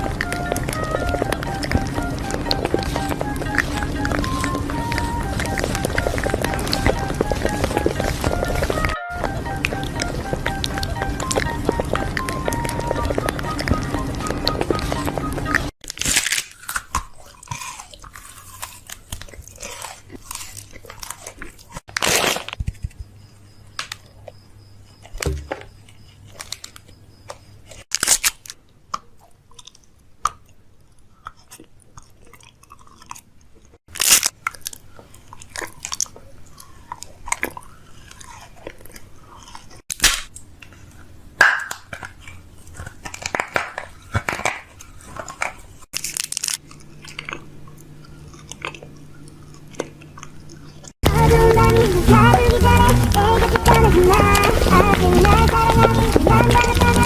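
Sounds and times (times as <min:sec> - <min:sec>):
person chewing crunchy food: 0:00.0 - 0:23.2, 0:23.9 - 0:57.0.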